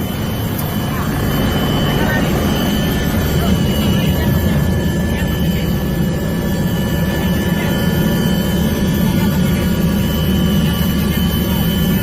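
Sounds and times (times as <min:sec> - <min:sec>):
engine drone: 0:00.0 - 0:12.0
high whine: 0:00.0 - 0:12.0.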